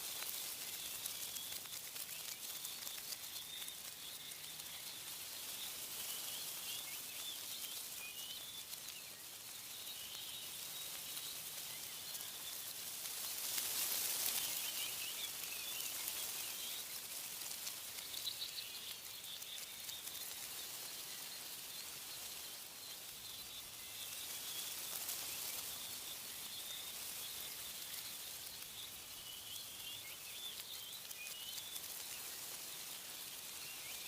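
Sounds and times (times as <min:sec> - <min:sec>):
small birds chirping: 0:00.0 - 0:34.0
wind rustling leaves: 0:00.0 - 0:34.0.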